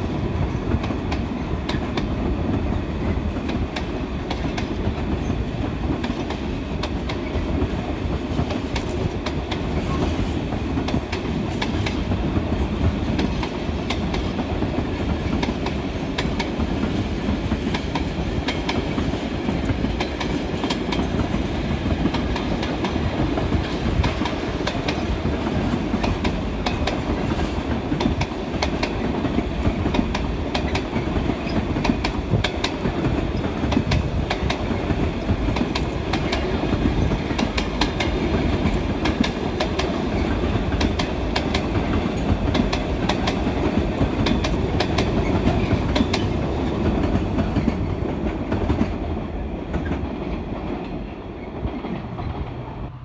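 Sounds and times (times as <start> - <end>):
train wheels rumbling on rails: 0.0 - 53.0
wheels clicking over rail joints: 3.3 - 52.6.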